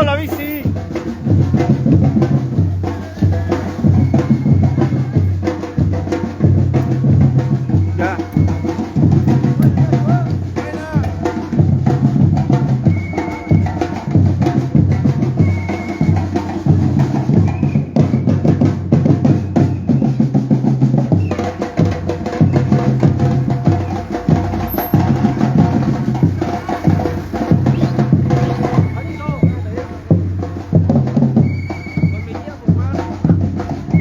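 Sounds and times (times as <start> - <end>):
deep bass drums beating: 0.0 - 34.0
percussion band drumming: 0.0 - 34.0.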